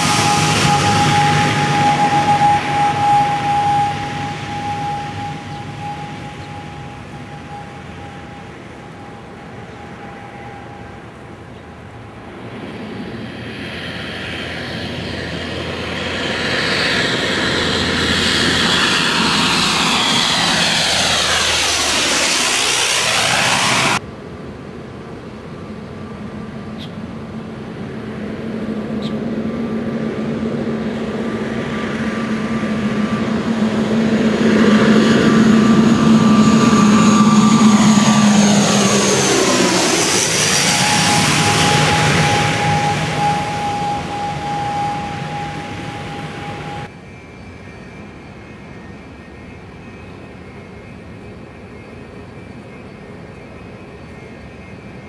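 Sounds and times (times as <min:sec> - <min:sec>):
turboprop airplane passing overhead: 0:00.0 - 0:24.5, 0:25.2 - 0:46.9.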